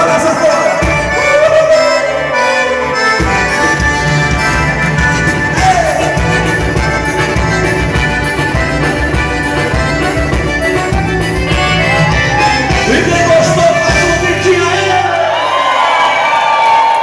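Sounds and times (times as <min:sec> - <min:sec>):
live dance band music: 0:00.0 - 0:15.8.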